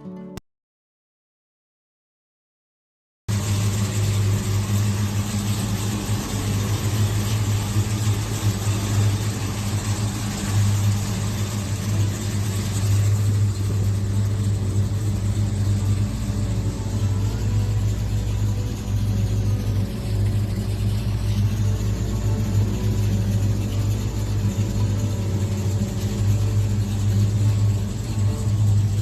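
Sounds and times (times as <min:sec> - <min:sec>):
car engine idling: 0:03.3 - 0:29.0.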